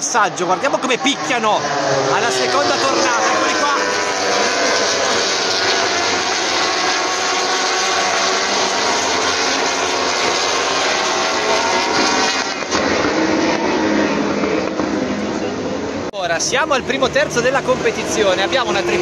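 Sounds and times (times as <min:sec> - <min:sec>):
racing motorcycles passing at full throttle: 0:00.0 - 0:19.0.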